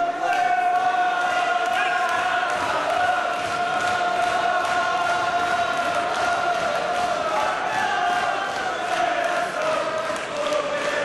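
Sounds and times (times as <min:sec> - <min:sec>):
crowd chanting in unison: 0:00.0 - 0:11.0
crowd noise: 0:00.0 - 0:11.0.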